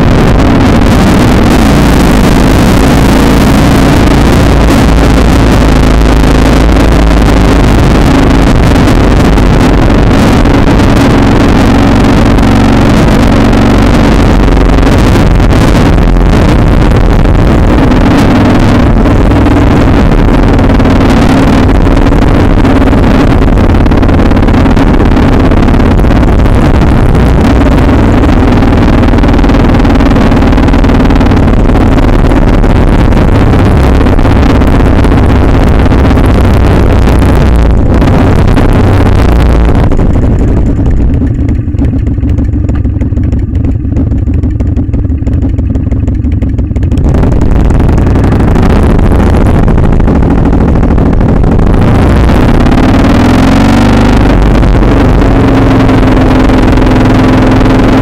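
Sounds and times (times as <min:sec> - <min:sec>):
wind rush on microphone: 0:00.0 - 0:41.8, 0:46.8 - 0:58.0
motorcycle engine running: 0:00.0 - 0:58.0.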